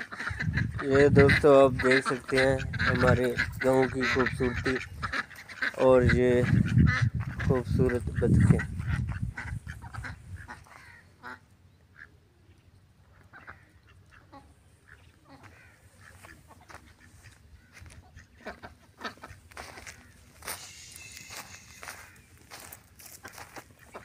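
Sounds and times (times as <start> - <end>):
ducks quacking faintly: 0.0 - 24.0.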